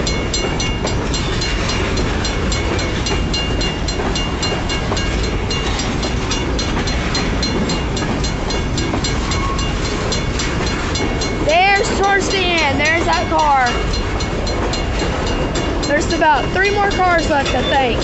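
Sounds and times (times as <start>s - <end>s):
railroad crossing bell ringing: 0.0s - 18.0s
train rumbling on rails: 0.0s - 18.0s.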